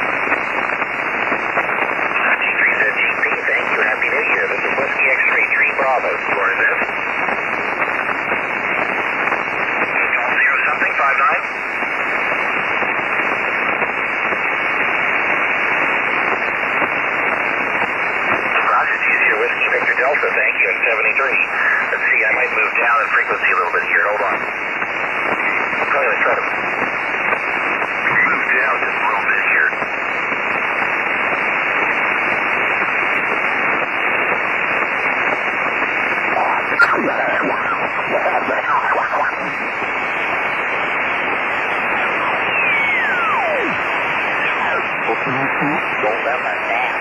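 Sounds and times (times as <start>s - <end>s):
muffled shortwave radio hiss: 0.0s - 47.0s.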